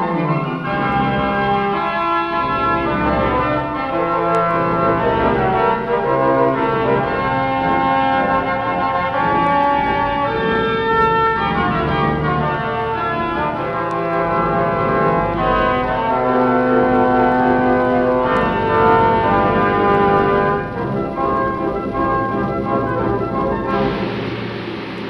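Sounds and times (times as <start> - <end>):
theatre organ playing march: 0.0 - 25.0.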